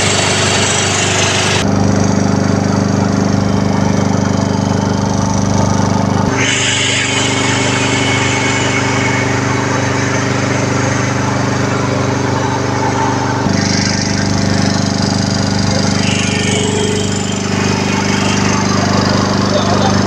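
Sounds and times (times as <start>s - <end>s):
piston air compressor running: 0.0s - 20.0s.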